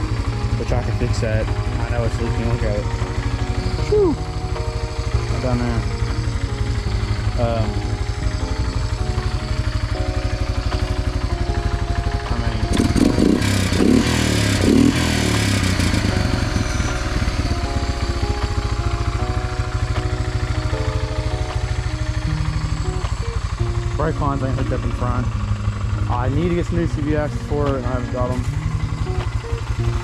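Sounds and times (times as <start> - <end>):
atv engine idling: 0.0 - 30.0
engine revving: 0.0 - 30.0.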